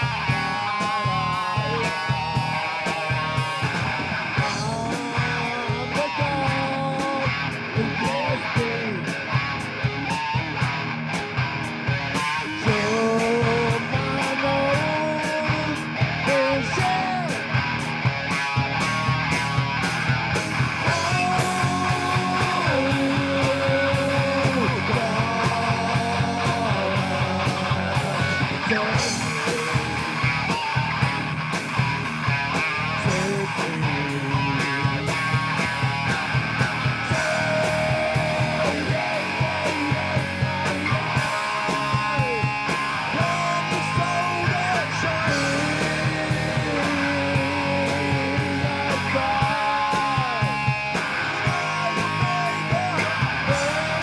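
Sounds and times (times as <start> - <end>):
bass guitar: 0.0 - 54.0
bending lead guitar line: 0.0 - 54.0
electric guitars: 0.0 - 54.0
fast drum beat: 0.0 - 54.0.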